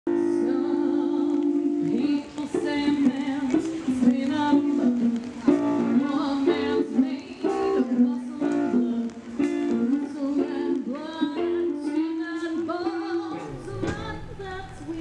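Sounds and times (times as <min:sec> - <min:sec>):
plucked string music: 0:00.1 - 0:15.0.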